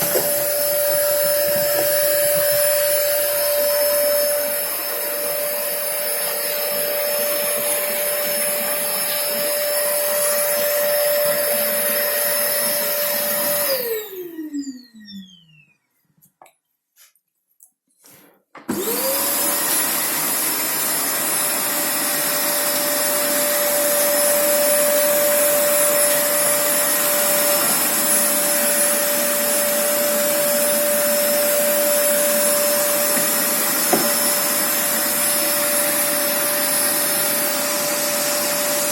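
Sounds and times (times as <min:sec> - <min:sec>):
vacuum cleaner motor whining: 0:00.0 - 0:15.8, 0:18.7 - 0:38.9.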